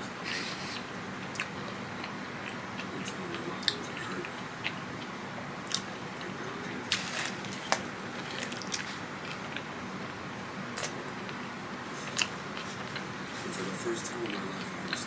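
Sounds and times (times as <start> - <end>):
chewing fried food: 0.3 - 9.8, 10.7 - 15.0.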